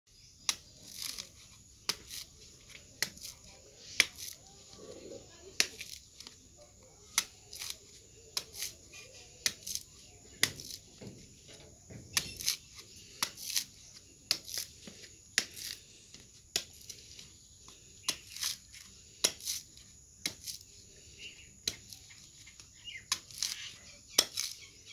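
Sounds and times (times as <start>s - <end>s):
machete chopping coconut husk: 0.4s - 11.2s, 11.9s - 20.7s, 21.3s - 24.9s.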